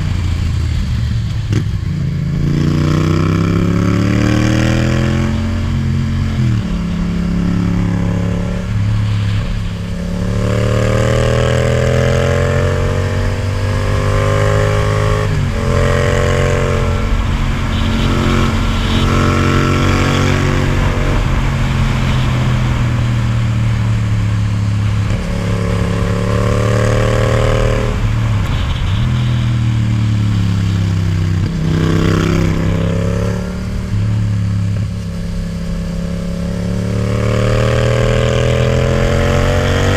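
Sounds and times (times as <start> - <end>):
motorcycle engine revving: 0.0 - 39.9
wind rush: 3.6 - 39.9.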